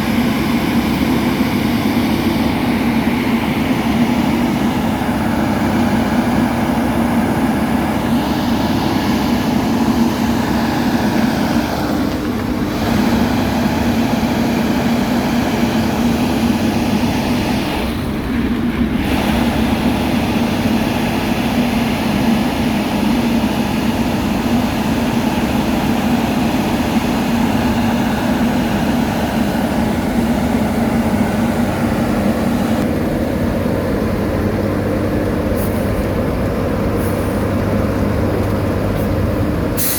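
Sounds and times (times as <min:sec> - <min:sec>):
road-paving machinery running: 0:00.0 - 0:39.9.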